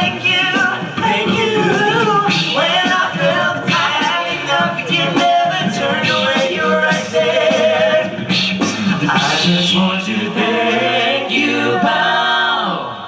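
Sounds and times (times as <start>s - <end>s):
male a cappella group singing: 0.0s - 13.0s.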